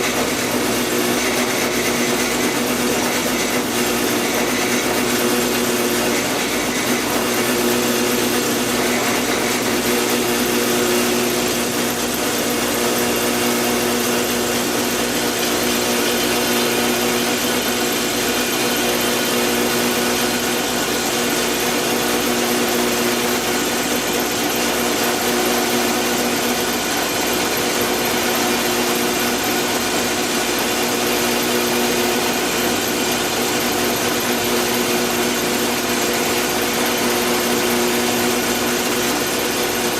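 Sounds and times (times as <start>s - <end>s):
electric power tool motor whining: 0.0s - 39.9s.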